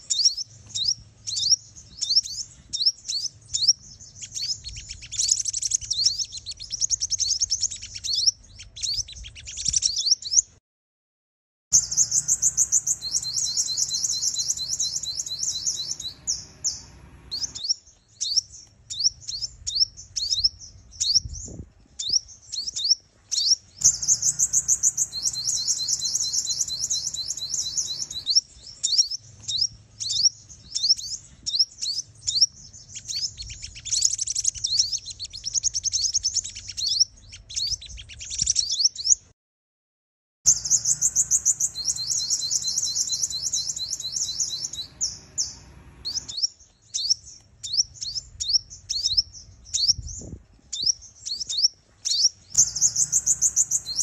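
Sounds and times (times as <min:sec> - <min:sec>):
high twittering bird chirps: 0:00.0 - 0:10.6, 0:11.7 - 0:39.2, 0:40.5 - 0:54.0.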